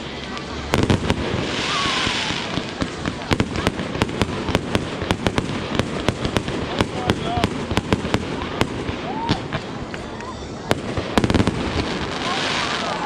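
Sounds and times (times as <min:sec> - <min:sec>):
firework hiss: 0:00.0 - 0:10.0, 0:10.6 - 0:13.0
fireworks popping and crackling: 0:00.0 - 0:13.0.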